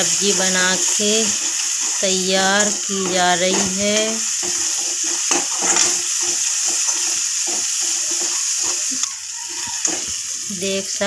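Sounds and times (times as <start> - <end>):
metal spatula scraping pan: 0.0 - 10.4
masala sizzling in a pan: 0.0 - 11.0.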